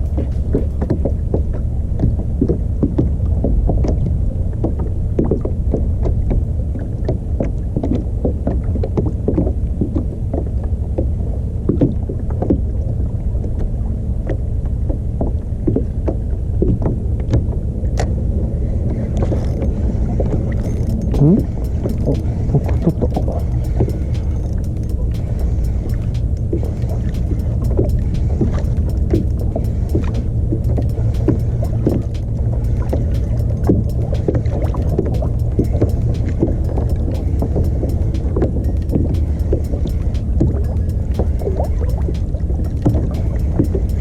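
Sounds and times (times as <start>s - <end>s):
steady low rumble: 0.0s - 44.0s
water splashing against kayak hull: 0.0s - 44.0s.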